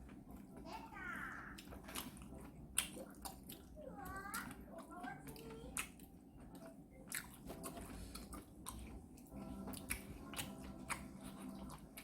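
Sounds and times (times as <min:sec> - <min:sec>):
person chewing: 0:01.4 - 0:12.0.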